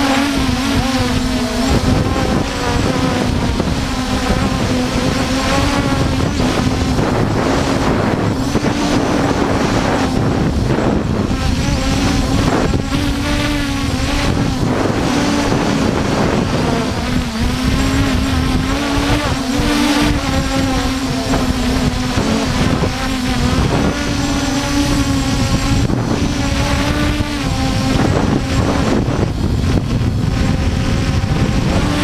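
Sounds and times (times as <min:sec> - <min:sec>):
drone propellers whining: 0:00.0 - 0:32.0
wind buffeting microphone: 0:00.0 - 0:32.0.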